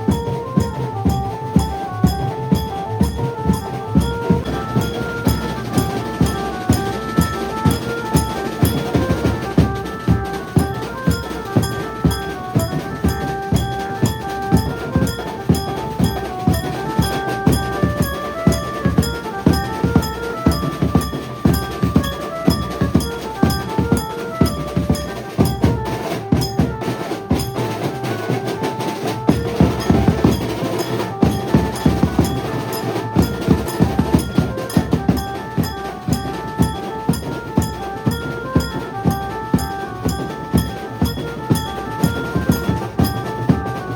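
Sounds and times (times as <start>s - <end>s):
amplified banjo melody: 0.0s - 43.9s
driving drumming: 0.0s - 43.9s.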